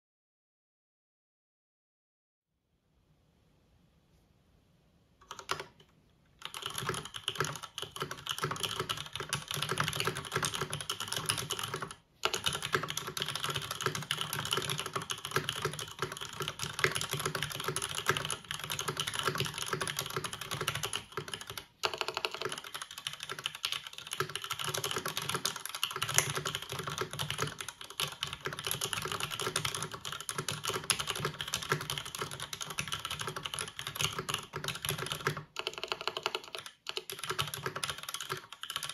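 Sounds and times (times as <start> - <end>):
mechanical keyboard typing: 5.2 - 38.9.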